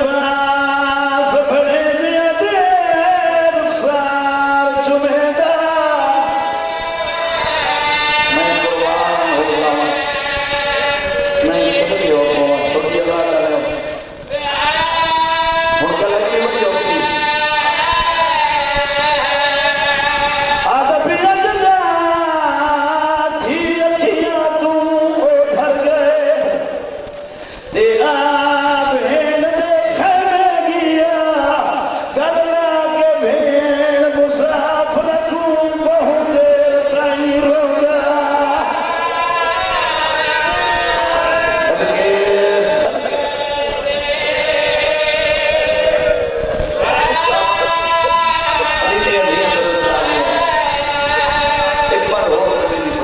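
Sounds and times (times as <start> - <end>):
man chanting into microphone: 0.0 - 53.0.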